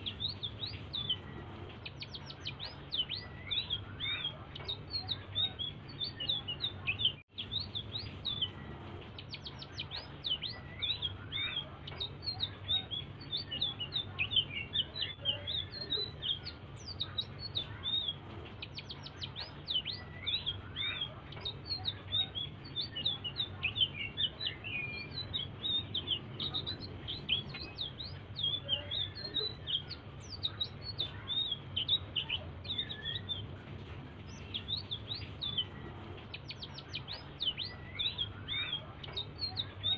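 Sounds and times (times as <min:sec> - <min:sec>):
faint low hum: 0:00.0 - 0:39.9
songbird singing rapid chirps: 0:00.0 - 0:39.9.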